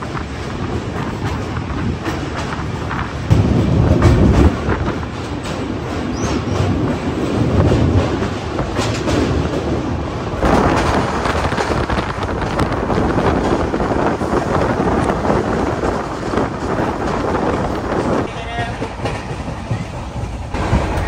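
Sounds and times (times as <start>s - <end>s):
train rumble and wheel clatter: 0.0s - 21.0s.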